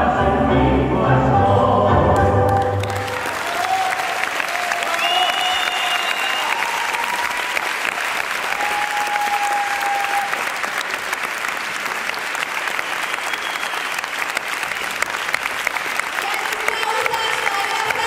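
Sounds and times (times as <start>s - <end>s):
crowd applauding: 2.5s - 18.0s.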